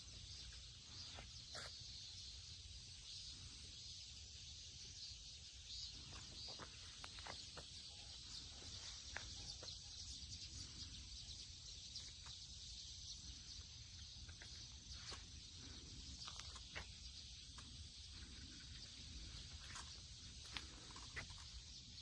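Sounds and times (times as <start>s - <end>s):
insect chorus: 0.0s - 22.0s.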